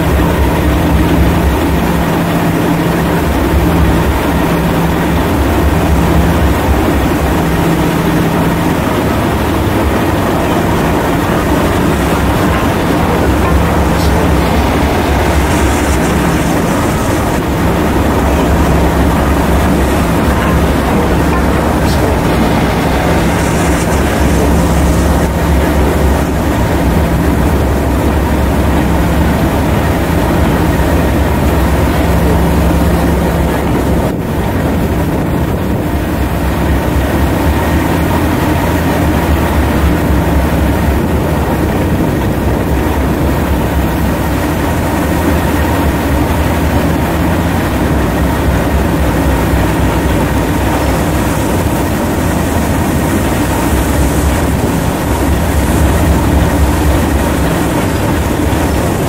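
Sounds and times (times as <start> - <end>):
faint steady hum: 0.0 - 59.0
steam train rumble: 0.0 - 59.0.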